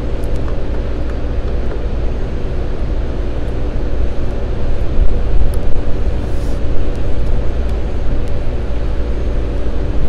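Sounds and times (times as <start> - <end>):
chiller machinery drone: 0.0 - 10.0.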